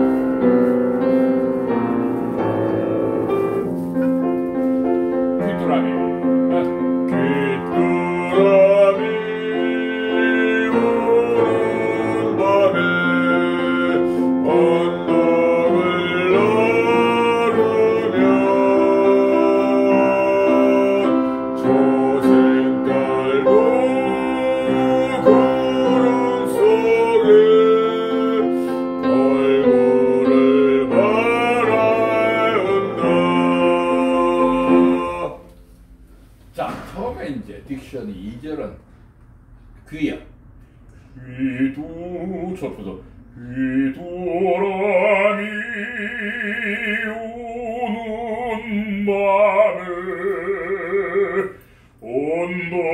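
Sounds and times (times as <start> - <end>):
man singing classical style: 0.0 - 35.7, 41.1 - 52.9
piano accompaniment: 0.0 - 39.8, 40.4 - 52.9.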